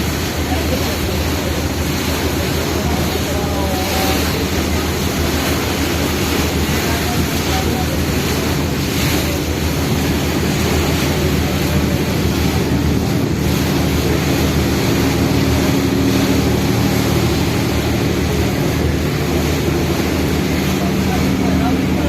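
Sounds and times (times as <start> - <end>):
ferry engine droning: 0.0 - 22.0
water wash: 0.0 - 22.0.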